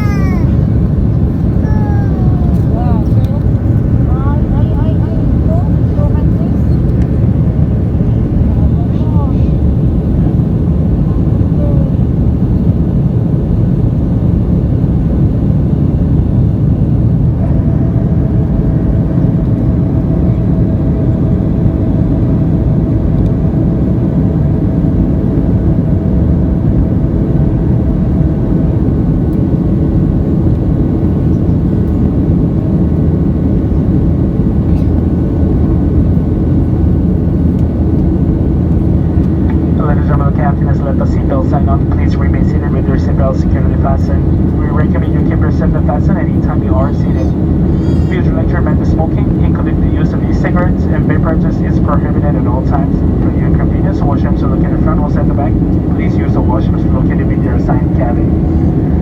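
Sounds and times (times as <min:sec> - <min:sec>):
jet engine and airflow noise: 0:00.0 - 0:59.0.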